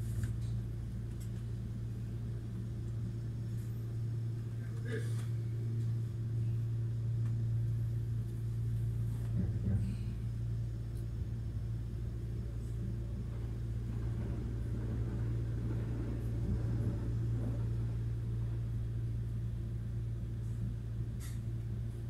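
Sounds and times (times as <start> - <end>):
train cabin low hum: 0.0 - 22.0.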